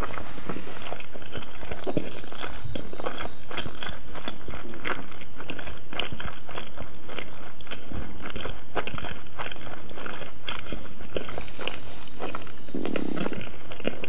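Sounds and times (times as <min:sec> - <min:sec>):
chewing noodles mouth sounds: 0:00.0 - 0:14.0.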